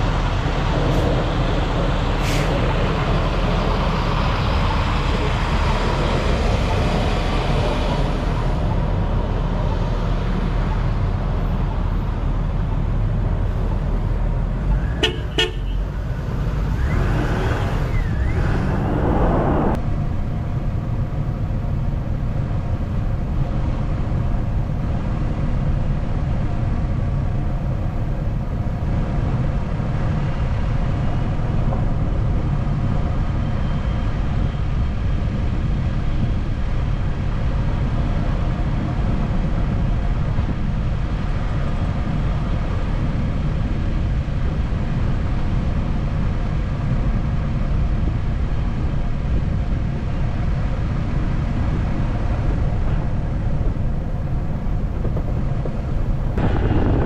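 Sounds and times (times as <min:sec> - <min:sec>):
car tyres and engine rumbling: 0:00.0 - 0:57.0.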